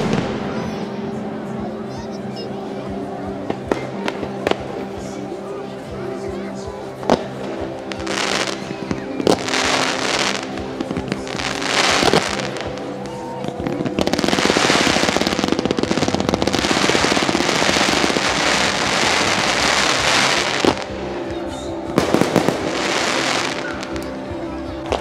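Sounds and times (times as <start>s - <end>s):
rapid fireworks crackling: 0.0s - 25.0s.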